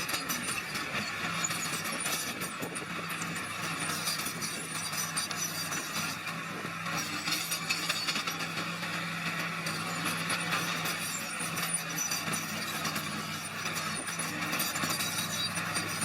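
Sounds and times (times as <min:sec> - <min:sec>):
tracks clattering and scraping stone: 0:00.0 - 0:08.8, 0:09.7 - 0:16.0
bulldozer diesel engine running: 0:00.0 - 0:16.0.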